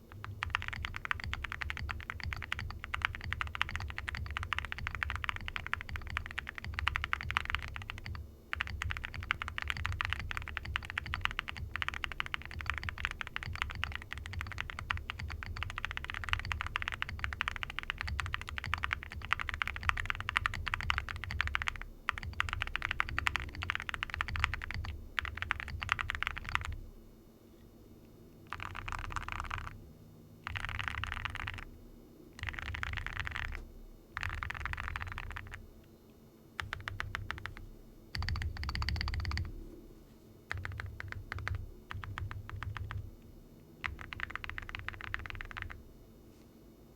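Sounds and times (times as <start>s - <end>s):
fast typing on mechanical keyboard: 0.0s - 26.8s, 28.5s - 29.8s, 30.4s - 31.7s, 32.4s - 33.6s, 34.2s - 35.6s, 36.6s - 39.5s, 40.5s - 43.1s, 43.8s - 45.8s.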